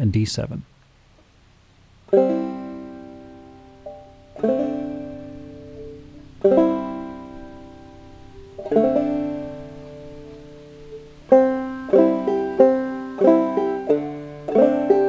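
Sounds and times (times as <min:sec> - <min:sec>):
faint banjo string pluck: 0:00.7 - 0:15.0
banjo chords ringing: 0:02.0 - 0:15.0.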